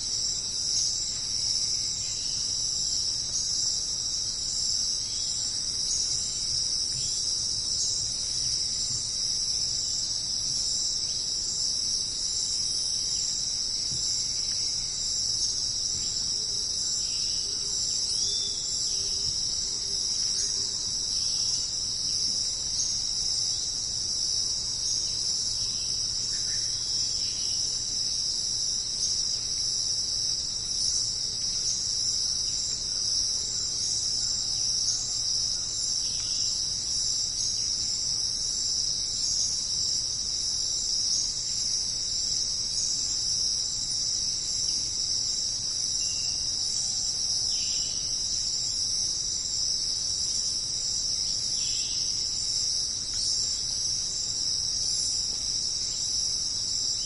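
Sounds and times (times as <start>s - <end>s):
night insects shrilling: 0.0s - 57.0s.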